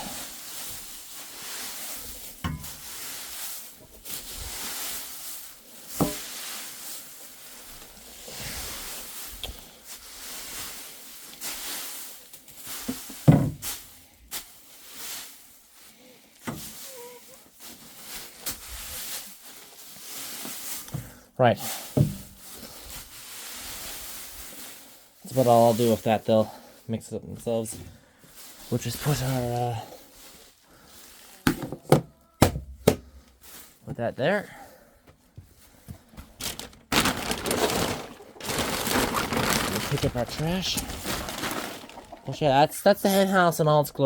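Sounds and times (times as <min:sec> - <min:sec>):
wood shavings rustling: 0:00.0 - 0:16.0, 0:16.6 - 0:20.9, 0:21.7 - 0:26.2, 0:28.3 - 0:31.4, 0:35.7 - 0:43.8.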